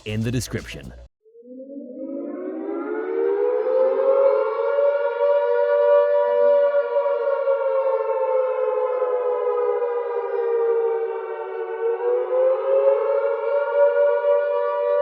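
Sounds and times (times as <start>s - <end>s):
air raid siren wailing: 1.3s - 15.0s.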